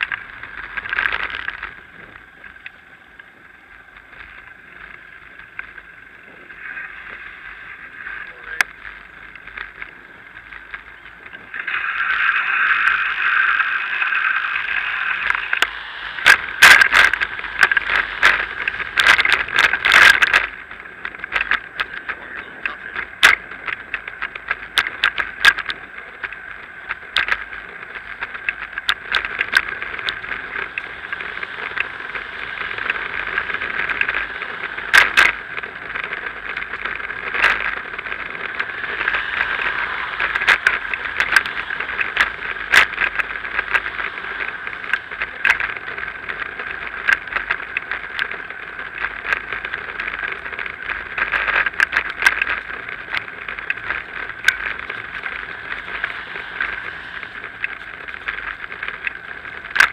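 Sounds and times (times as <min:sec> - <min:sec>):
bicycle tyre road noise: 0:00.0 - 0:59.9
bike rattling over bumps: 0:00.0 - 0:59.9.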